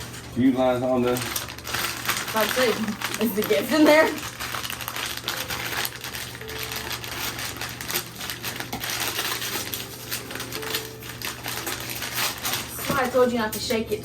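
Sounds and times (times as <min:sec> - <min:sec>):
wrapping paper rustling and crinkling: 0:00.0 - 0:14.0.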